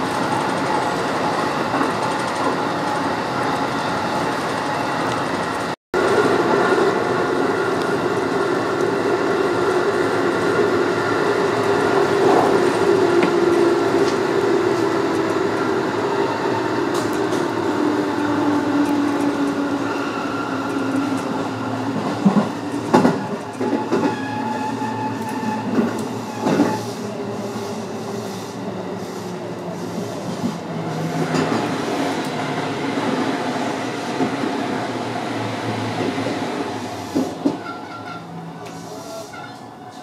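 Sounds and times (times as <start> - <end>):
train wheels on rails: 0.0 - 40.0.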